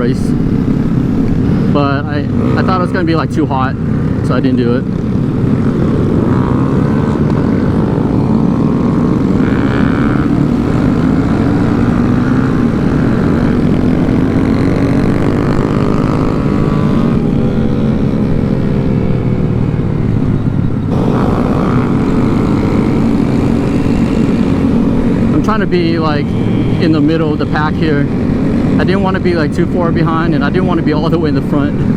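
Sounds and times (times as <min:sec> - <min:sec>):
small motorcycle engines running: 0:00.0 - 0:31.9.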